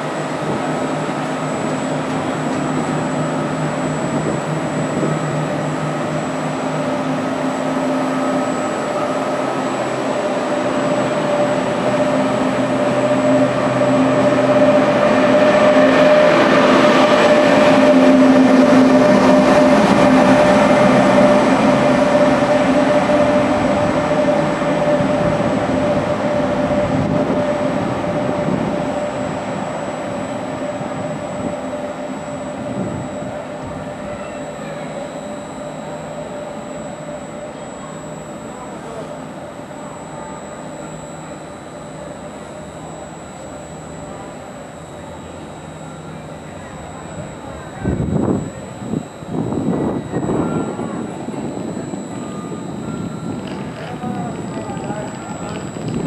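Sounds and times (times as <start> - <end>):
train wheels rumbling on rails: 0.0 - 41.0, 43.8 - 56.0
electric train hum: 0.0 - 56.0.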